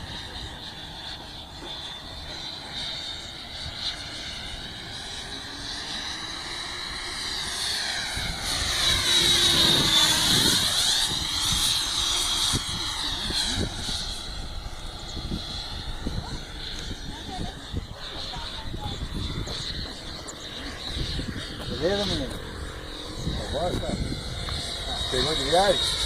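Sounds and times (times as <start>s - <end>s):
electric ducted fan whine: 0.0s - 26.0s.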